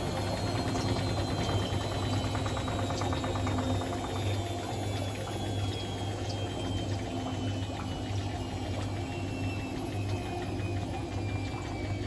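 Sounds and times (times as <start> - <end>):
washing machine motor whine: 0.0 - 12.0
water sloshing in drum: 0.0 - 12.0.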